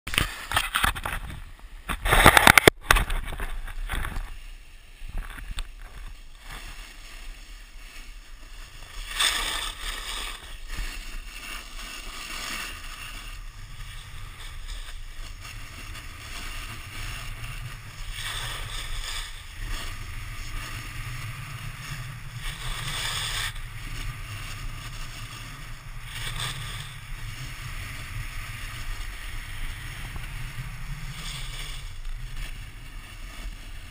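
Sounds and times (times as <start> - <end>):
snowboard scraping over snow: 0.2 - 33.9.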